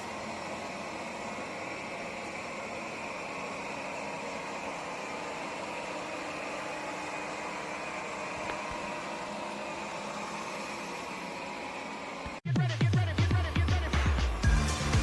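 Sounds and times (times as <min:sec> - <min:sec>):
robot vacuum whirring: 0:00.0 - 0:12.4.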